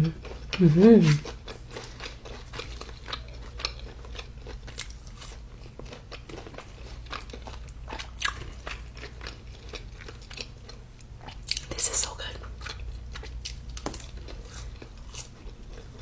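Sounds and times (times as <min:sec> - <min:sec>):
low steady hum: 0:00.0 - 0:16.0
person chewing crunchy food: 0:00.0 - 0:16.0.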